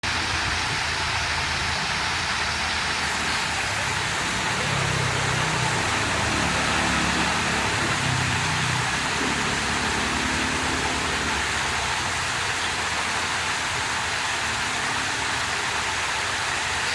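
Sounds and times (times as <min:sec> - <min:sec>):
water rushing: 0:00.0 - 0:16.9.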